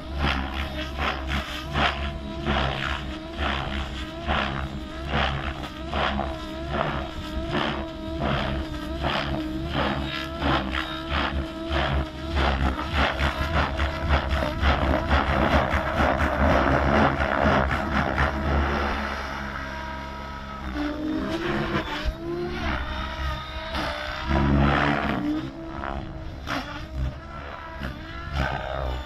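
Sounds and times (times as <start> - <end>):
rc helicopter rotor and motor: 0.0 - 29.0.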